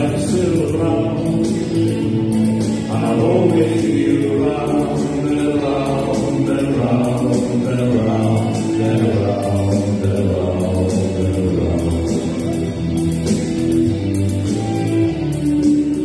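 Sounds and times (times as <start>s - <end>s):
man singing into a microphone: 0.0s - 12.8s
music: 0.0s - 16.0s.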